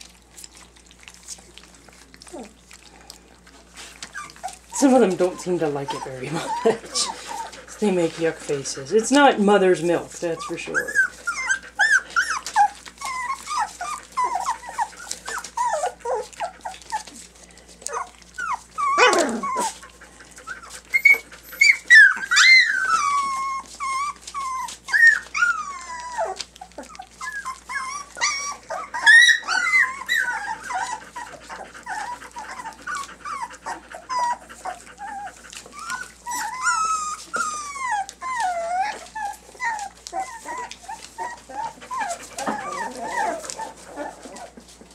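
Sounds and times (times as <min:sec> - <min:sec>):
puppies whining and squealing: 0:00.0 - 0:44.9.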